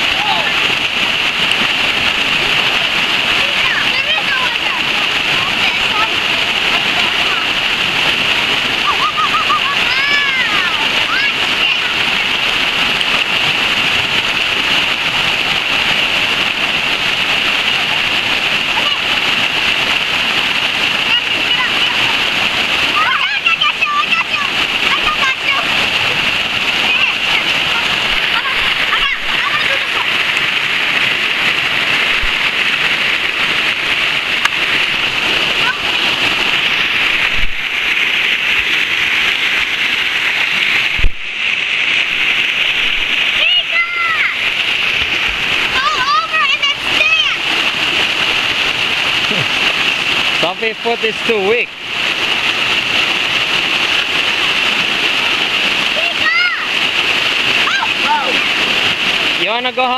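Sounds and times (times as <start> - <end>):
stream water rushing over rocks: 0.0 - 59.9.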